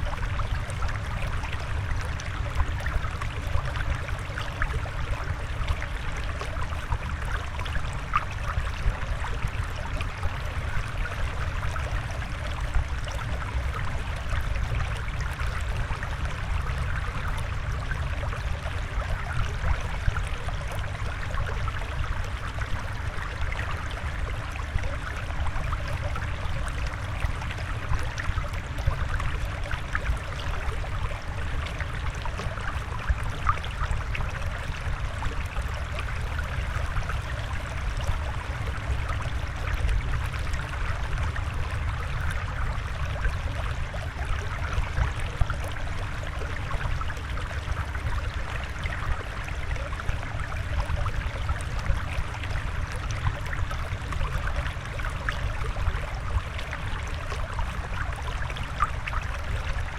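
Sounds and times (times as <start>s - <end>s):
small water splashes: 0.0s - 59.9s
water trickling and gurgling: 0.0s - 59.9s.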